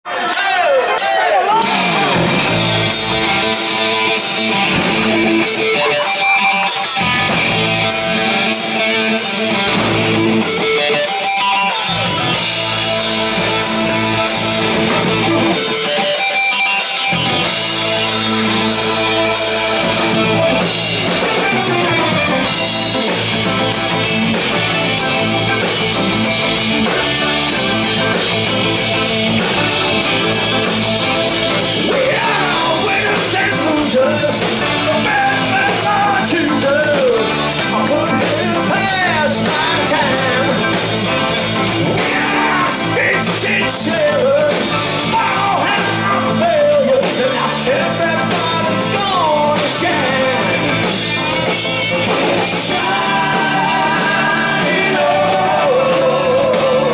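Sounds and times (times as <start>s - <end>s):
drum kit: 0.1s - 56.9s
bass guitar: 1.4s - 56.9s
electric guitar riff: 1.4s - 56.9s.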